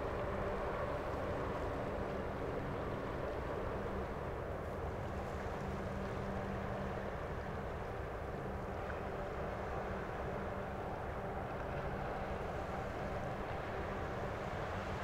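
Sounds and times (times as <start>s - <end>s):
ship engine droning: 0.0s - 15.0s.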